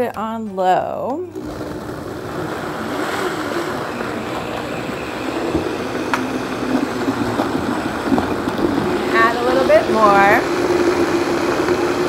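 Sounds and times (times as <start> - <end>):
blender running: 1.3 - 12.0.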